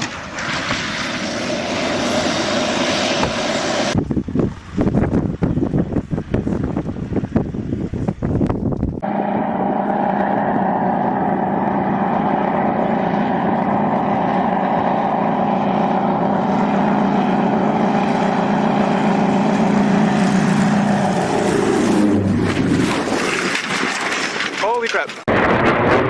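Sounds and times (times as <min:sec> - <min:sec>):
aircraft engine drone: 0:00.0 - 0:24.6, 0:25.3 - 0:26.0.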